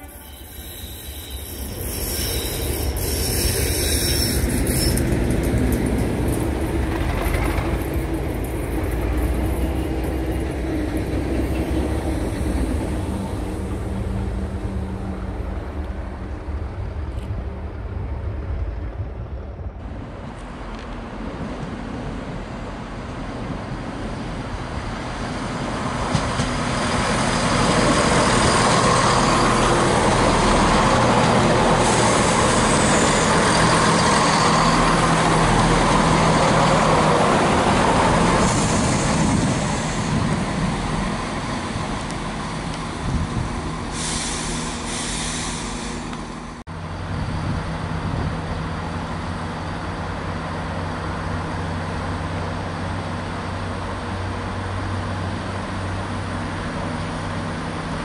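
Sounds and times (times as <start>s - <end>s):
diesel train passing: 0.0s - 58.0s.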